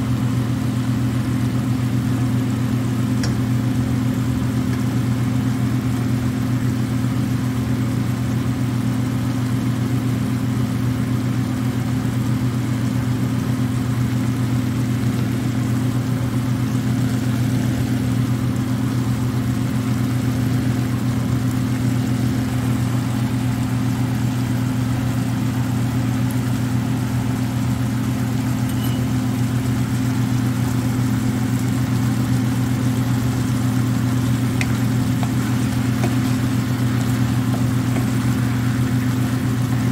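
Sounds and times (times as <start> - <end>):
exhaust fan humming: 0.0 - 39.9.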